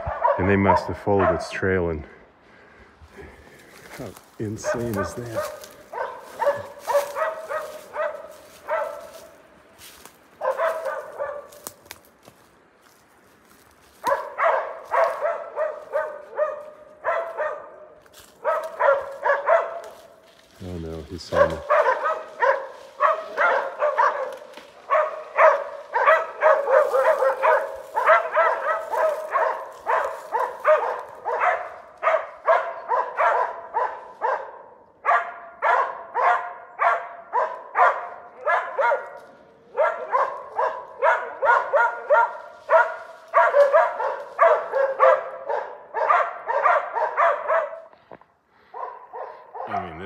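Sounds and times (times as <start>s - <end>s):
dogs barking rapidly: 0.0s - 1.8s, 4.4s - 11.8s, 13.9s - 20.2s, 21.0s - 48.0s, 48.6s - 50.0s.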